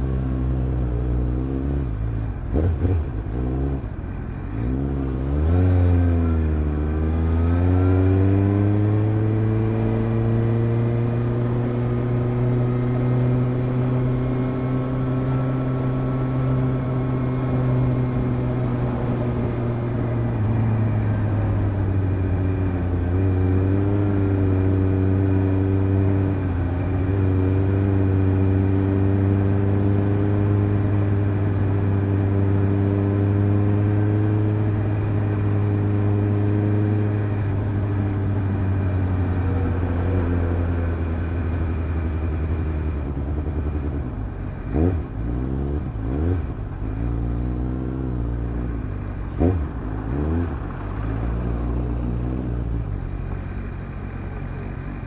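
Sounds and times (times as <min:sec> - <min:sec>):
motorcycle engine drone: 0:00.0 - 0:55.0.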